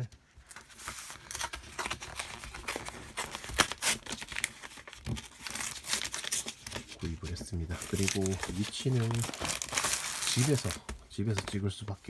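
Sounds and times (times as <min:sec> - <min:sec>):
cardboard crinkling and rustling: 0:00.0 - 0:12.0.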